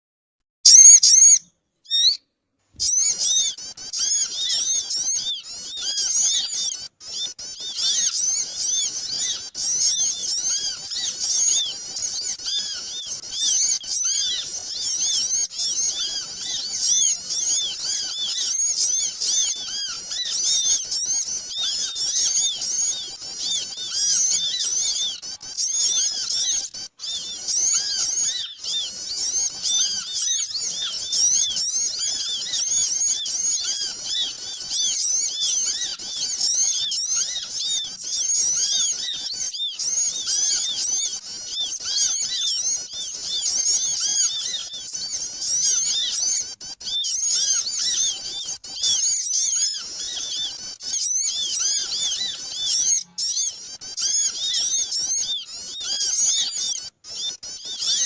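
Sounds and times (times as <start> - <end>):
many small birds chirping: 0.7 - 2.2, 2.8 - 58.0.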